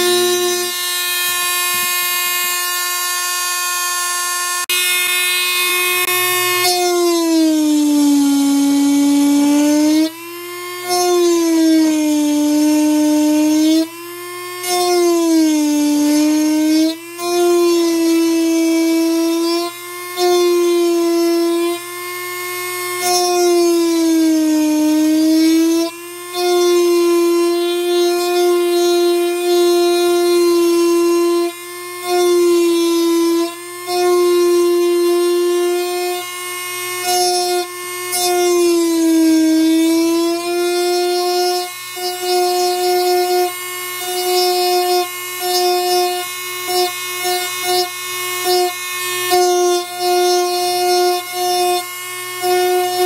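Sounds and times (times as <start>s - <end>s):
rotary tool whining: 0.0s - 53.0s.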